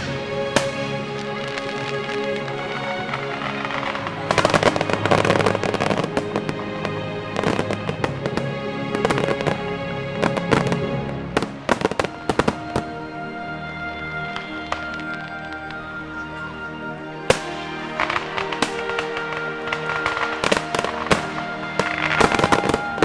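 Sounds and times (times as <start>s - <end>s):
firework shells bursting and crackling: 0.0s - 13.1s, 14.3s - 16.3s, 17.2s - 23.0s
music: 0.0s - 23.0s.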